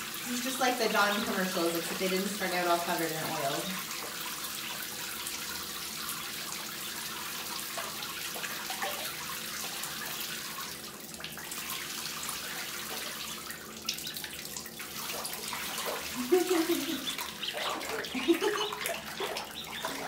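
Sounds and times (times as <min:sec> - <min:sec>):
shower water running: 0:00.0 - 0:20.0.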